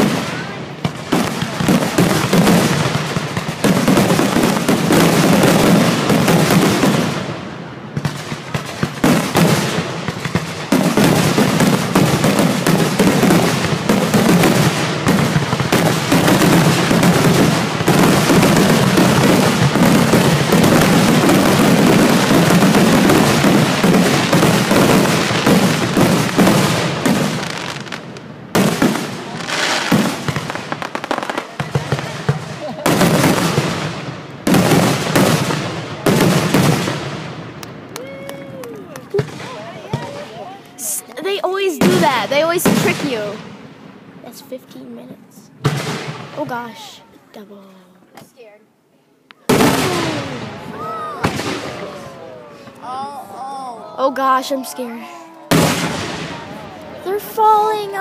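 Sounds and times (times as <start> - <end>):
fireworks bangs and crackling: 0.0 - 47.4, 49.3 - 53.2, 54.1 - 58.0.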